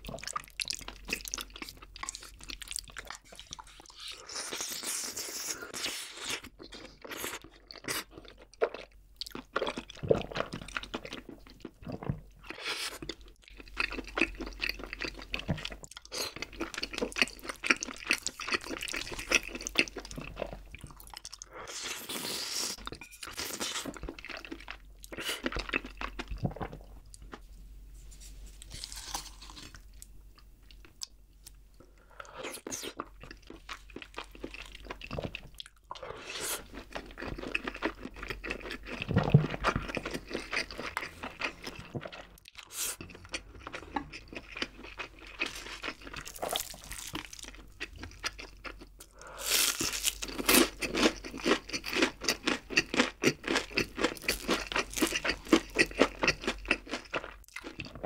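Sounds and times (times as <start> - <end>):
close chewing with wet mouth sounds: 0.0 - 21.6, 22.7 - 27.4, 32.2 - 58.0.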